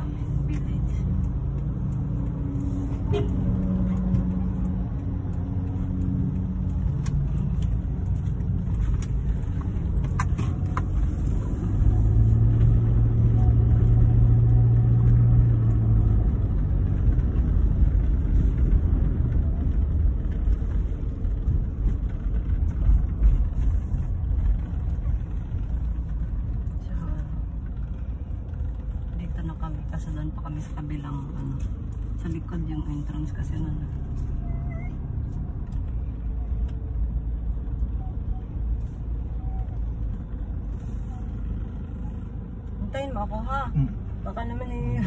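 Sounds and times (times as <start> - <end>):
car engine and road rumble: 0.0 - 45.0.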